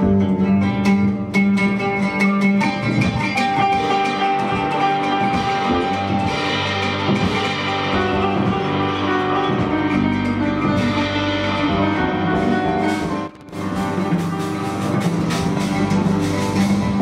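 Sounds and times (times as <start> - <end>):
plucked oud: 0.0 - 17.0.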